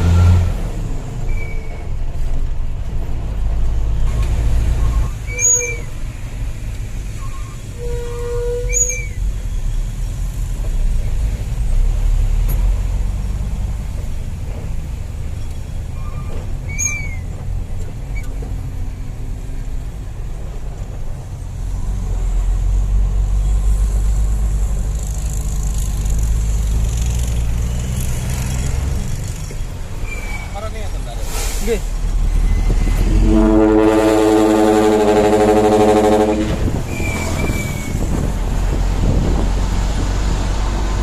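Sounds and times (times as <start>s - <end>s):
truck diesel engine droning: 0.0s - 41.0s.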